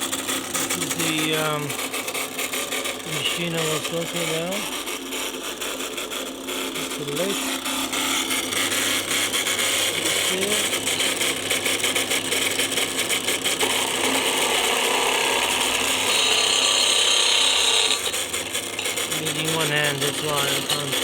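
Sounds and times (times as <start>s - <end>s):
motor humming: 0.0s - 21.0s
tool scraping spinning wood: 0.0s - 21.0s.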